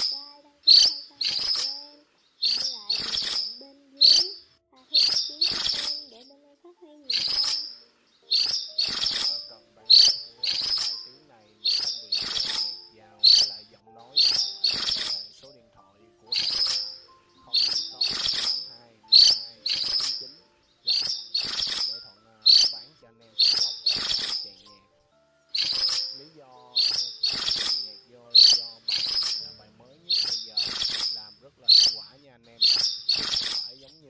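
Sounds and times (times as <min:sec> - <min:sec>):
bird calling with ringing trills: 0:00.0 - 0:34.0.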